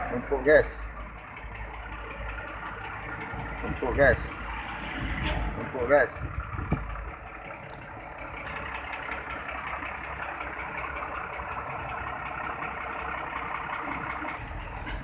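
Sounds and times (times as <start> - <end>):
heavy truck engines rumbling: 0.0 - 15.0
road noise: 0.0 - 15.0.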